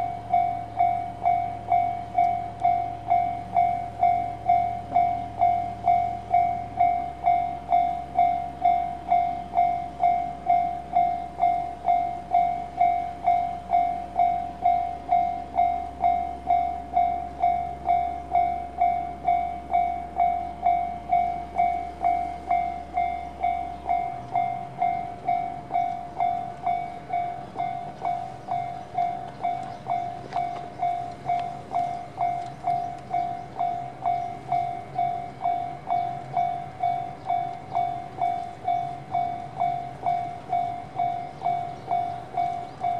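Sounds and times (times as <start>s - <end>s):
bell-like warning tone dinging: 0.0s - 42.9s
low steady hum: 0.0s - 42.9s.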